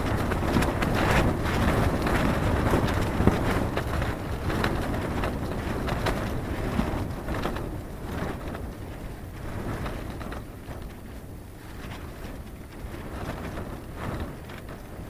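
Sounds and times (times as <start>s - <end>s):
gusty wind buffeting microphone: 0.0s - 15.0s.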